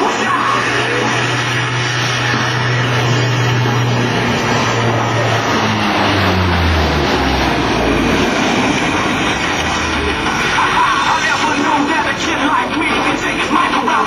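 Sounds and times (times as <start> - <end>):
turboprop aircraft droning past: 0.0 - 14.0.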